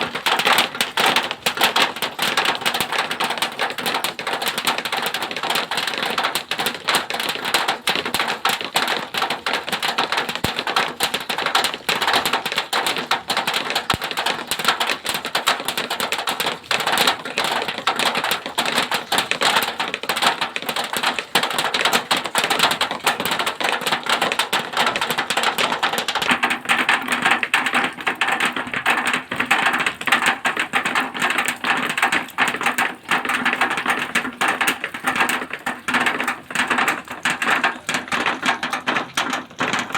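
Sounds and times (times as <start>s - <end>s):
rain on metal sheeting: 0.0s - 39.9s.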